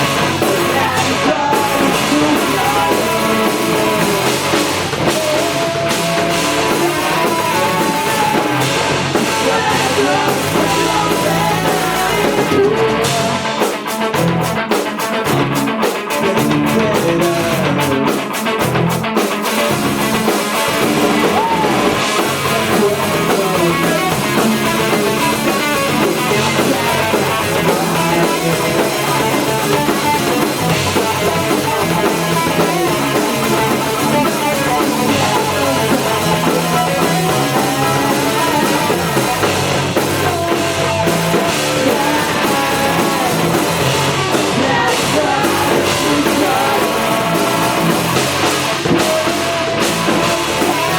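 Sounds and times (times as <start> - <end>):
bass guitar: 0.0 - 50.9
drum kit: 0.0 - 50.9
electric guitar: 0.0 - 50.9.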